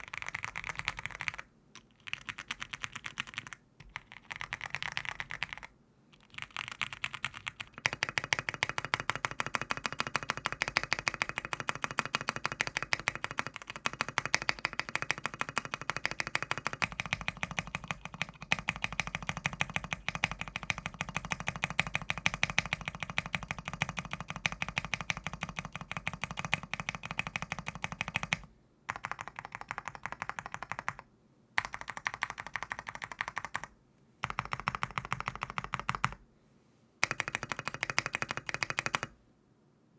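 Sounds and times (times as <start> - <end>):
mechanical keyboard typing: 0.0 - 36.2, 37.0 - 39.2.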